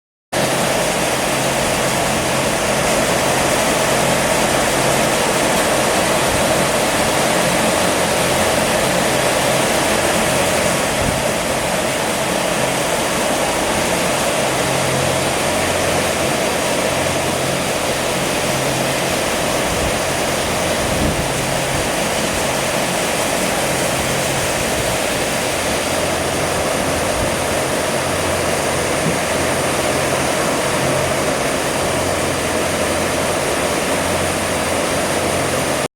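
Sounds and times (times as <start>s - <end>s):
low motor hum: 0.4s - 35.8s.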